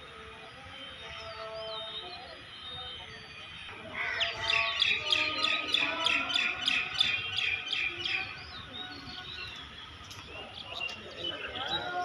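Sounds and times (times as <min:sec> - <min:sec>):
bird singing high chirps: 0:00.5 - 0:12.0.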